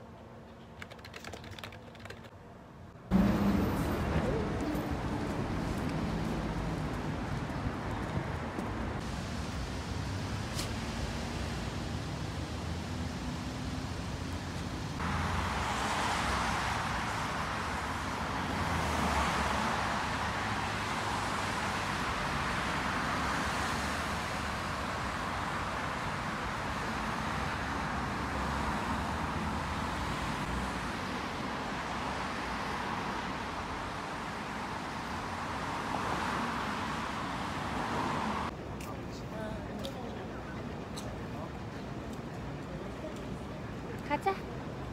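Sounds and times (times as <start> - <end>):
road traffic roar: 0.0 - 44.9.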